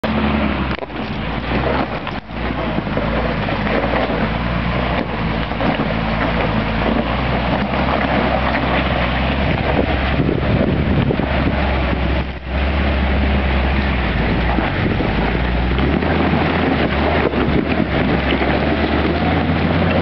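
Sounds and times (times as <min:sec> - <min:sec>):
truck engine running: 0:00.0 - 0:20.0
wind rumbling on microphone: 0:00.0 - 0:20.0.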